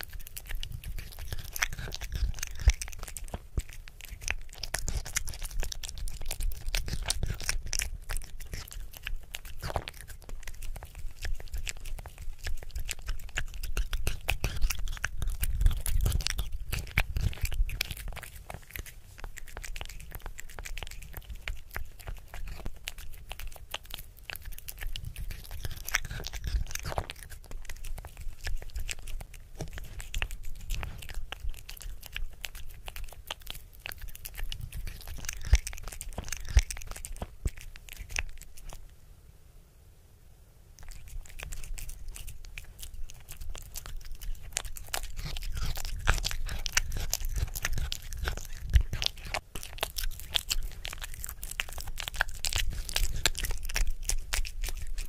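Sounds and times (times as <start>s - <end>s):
kitten chewing and smacking: 0.0s - 39.2s, 40.6s - 55.0s.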